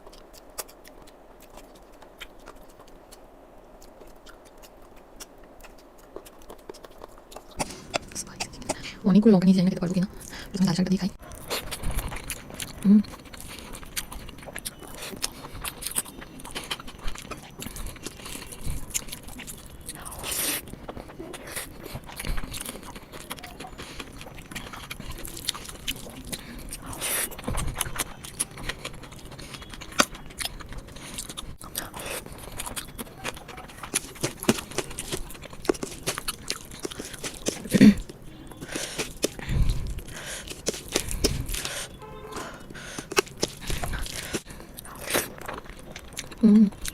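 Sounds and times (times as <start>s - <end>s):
close-up chewing: 0.0s - 46.9s.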